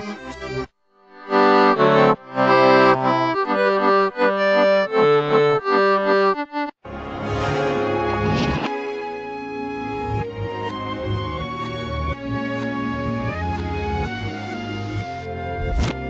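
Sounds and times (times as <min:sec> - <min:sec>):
accordion tune: 0:00.0 - 0:15.6.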